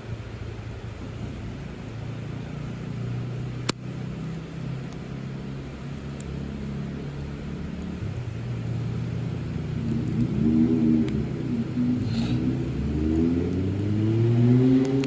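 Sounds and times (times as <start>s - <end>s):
burning wood popping: 0.0s - 15.0s
campfire burning: 0.0s - 15.0s.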